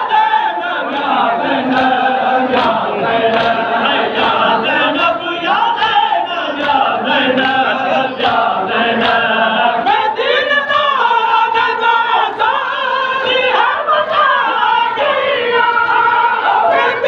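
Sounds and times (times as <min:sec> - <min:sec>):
men singing in chorus: 0:00.0 - 0:17.0.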